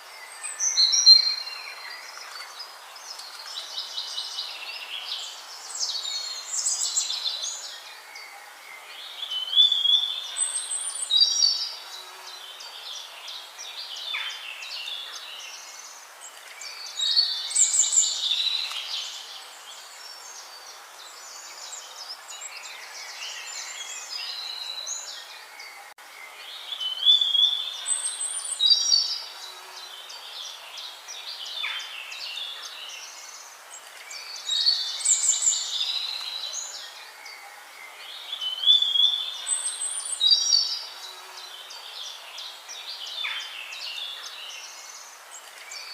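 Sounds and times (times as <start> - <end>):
songbirds chirping and whistling: 0.0 - 45.9
steady background hiss: 0.0 - 45.9.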